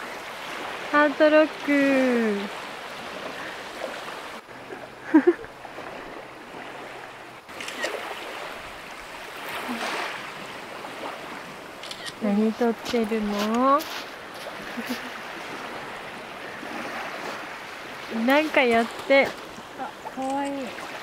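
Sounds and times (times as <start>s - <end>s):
small waves washing on shore: 0.0s - 21.0s
wind: 0.0s - 21.0s.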